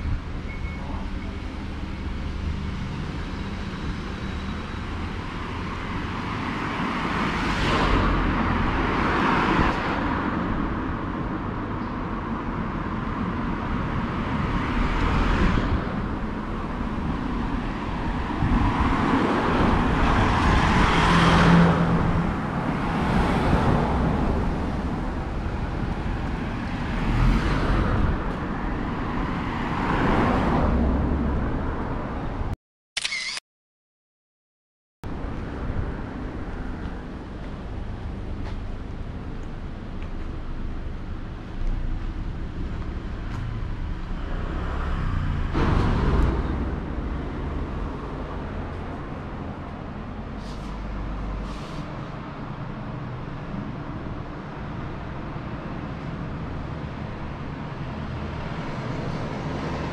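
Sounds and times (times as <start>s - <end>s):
cars passing: 0.0s - 32.6s, 35.1s - 59.9s
road hum: 0.0s - 33.4s, 35.0s - 59.9s.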